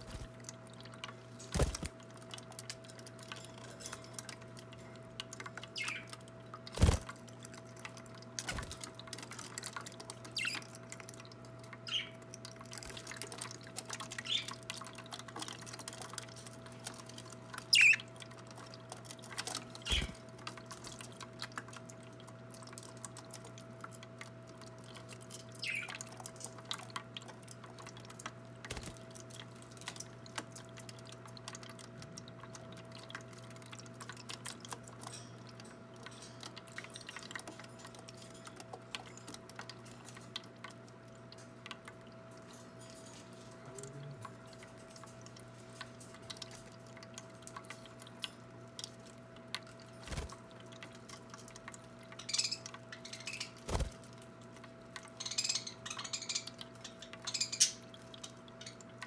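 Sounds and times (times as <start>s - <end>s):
birds splashing in water: 0.0s - 4.5s, 5.3s - 35.5s, 44.3s - 59.0s
fountain pump hum: 0.0s - 59.0s
water trickling: 0.0s - 59.0s.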